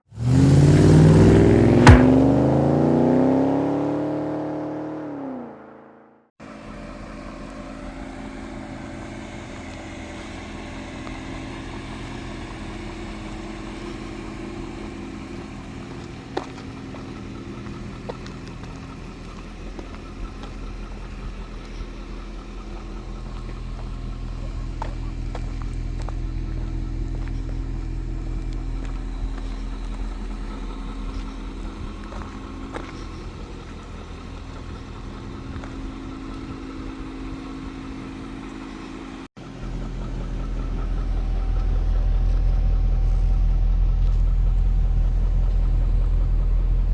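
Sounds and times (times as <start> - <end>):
car engine revving: 0.0 - 6.2, 6.8 - 46.9
car engine droning: 0.0 - 46.9.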